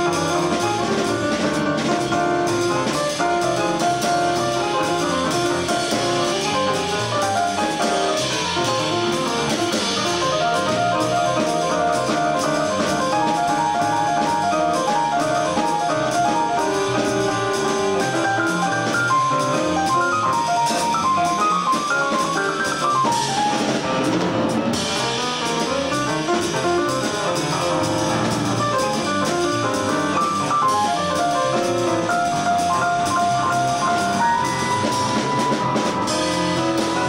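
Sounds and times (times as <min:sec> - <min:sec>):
jazz piano trio: 0:00.0 - 0:37.0.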